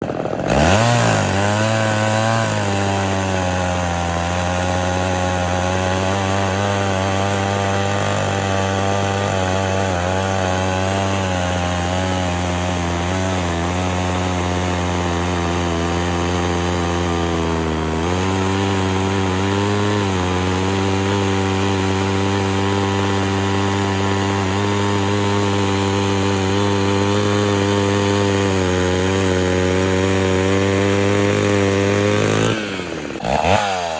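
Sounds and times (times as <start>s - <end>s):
chainsaw engine running: 0.0s - 33.9s.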